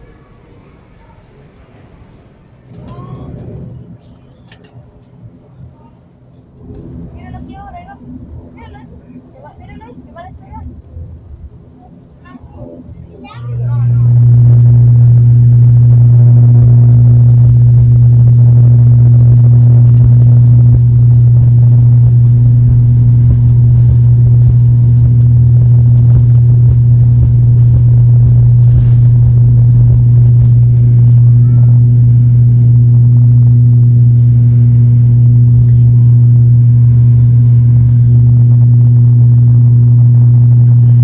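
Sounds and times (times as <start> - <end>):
propeller plane cabin drone: 0.0 - 41.0.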